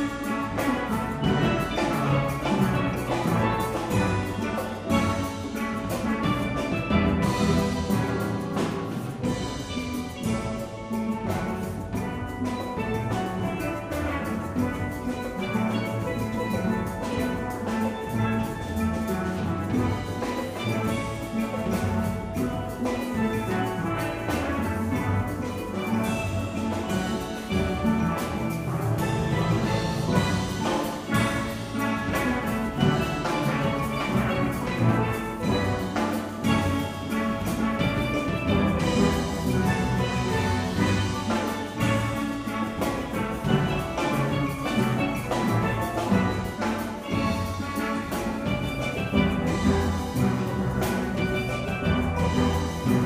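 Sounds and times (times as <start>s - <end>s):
drums keeping a beat: 0.0s - 53.0s
steel pans playing melody: 0.0s - 53.0s.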